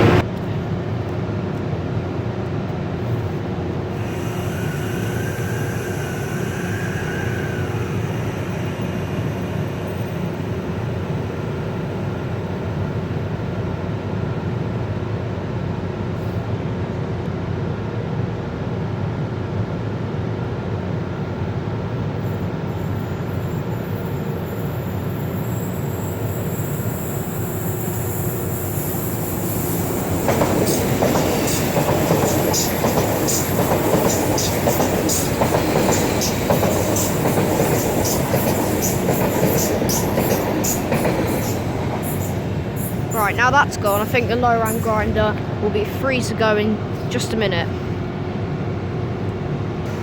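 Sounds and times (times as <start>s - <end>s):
train passing: 0.0s - 50.0s.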